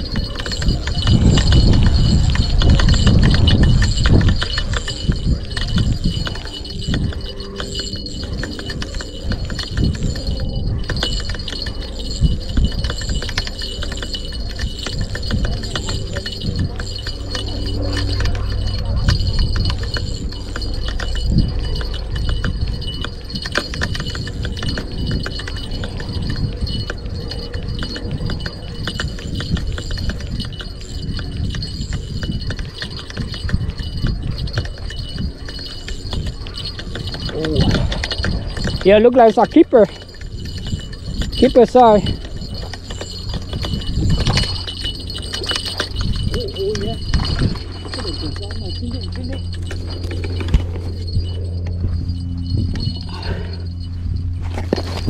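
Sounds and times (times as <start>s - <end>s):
fishing reel gears clicking: 0.0s - 55.0s
hand rubbing reel at microphone: 0.0s - 55.0s.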